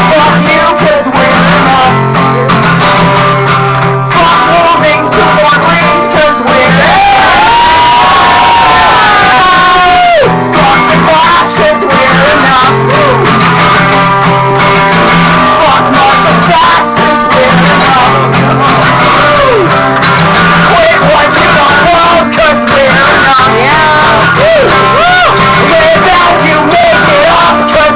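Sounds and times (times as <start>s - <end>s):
person singing: 0.0s - 27.9s
strummed guitar: 0.0s - 27.9s
wordless singing or shouting: 0.0s - 27.9s.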